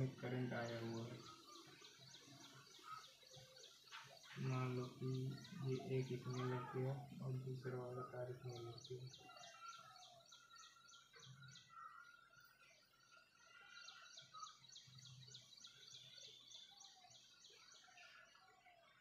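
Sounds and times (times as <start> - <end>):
bird chirps: 0.0 - 19.0
faint birdsong: 0.0 - 19.0.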